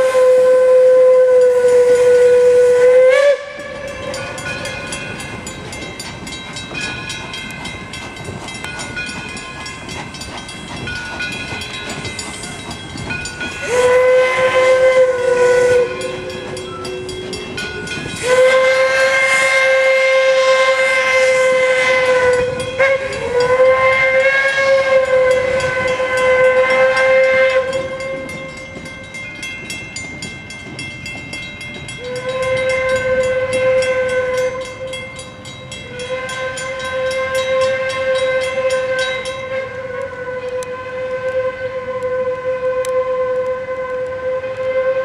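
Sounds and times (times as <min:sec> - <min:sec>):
steam locomotive whistle blasts: 0:00.0 - 0:06.0, 0:10.8 - 0:30.3, 0:31.8 - 0:45.0
train cars clicking: 0:00.0 - 0:45.0.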